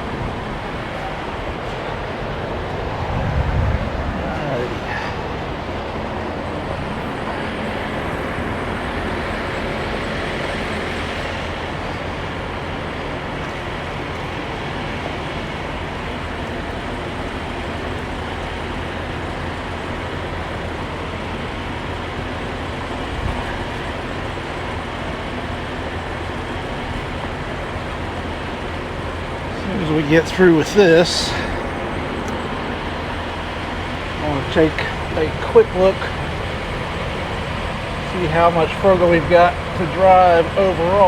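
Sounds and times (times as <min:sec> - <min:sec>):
steady rushing noise: 0:00.0 - 0:18.2, 0:20.3 - 0:41.0
truck diesel engine drone: 0:00.0 - 0:41.0.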